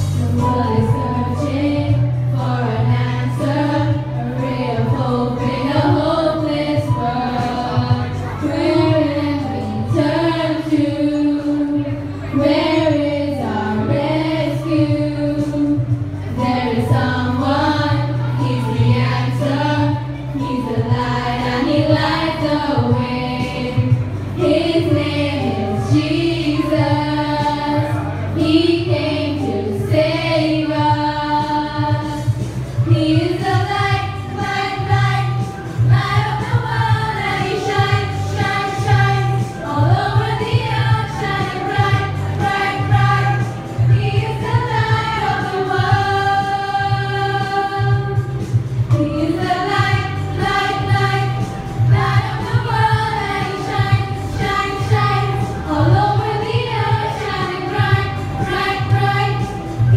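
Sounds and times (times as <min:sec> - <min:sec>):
girls singing in unison: 0:00.0 - 0:59.9.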